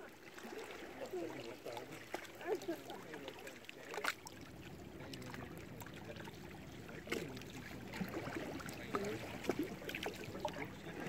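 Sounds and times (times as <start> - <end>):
water lapping against rocks: 0.0 - 11.0
water splash: 0.0 - 11.0.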